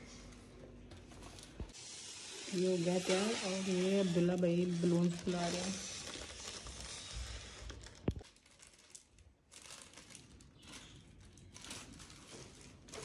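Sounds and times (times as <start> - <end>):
balloons crinkling and rustling: 0.0 - 13.0.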